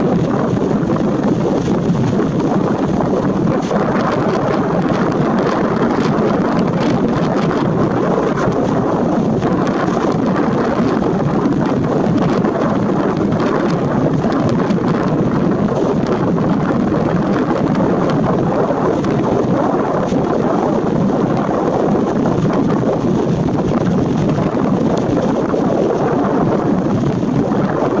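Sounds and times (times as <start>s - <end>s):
surf: 0.0s - 28.0s
wind buffeting microphone: 0.0s - 28.0s
wind rushing: 0.0s - 28.0s.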